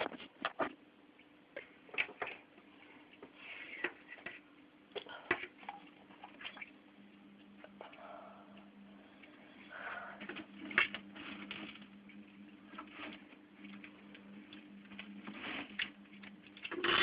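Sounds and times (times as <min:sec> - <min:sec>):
aquarium equipment hum: 0:00.0 - 0:17.0
small watery sounds: 0:01.1 - 0:17.0.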